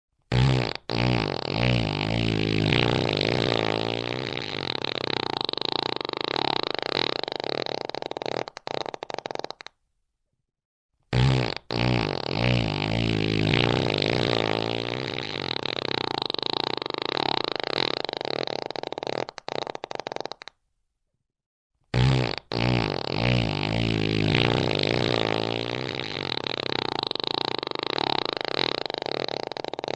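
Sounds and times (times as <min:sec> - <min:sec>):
long buzzy fart: 0:00.3 - 0:09.8, 0:11.1 - 0:20.6, 0:21.9 - 0:29.9.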